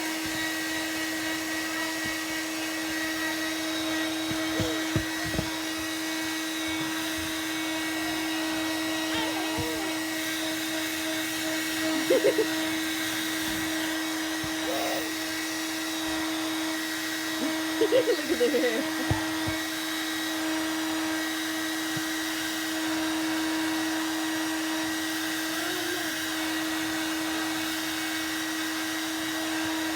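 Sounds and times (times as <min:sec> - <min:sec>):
hair dryer running: 0:00.0 - 0:29.9.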